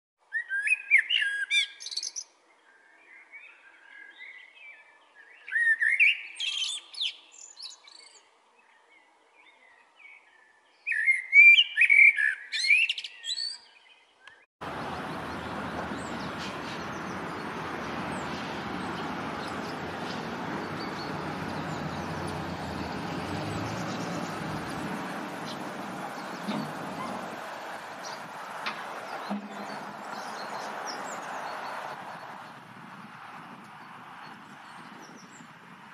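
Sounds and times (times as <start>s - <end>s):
blackbird singing: 0.3s - 32.6s.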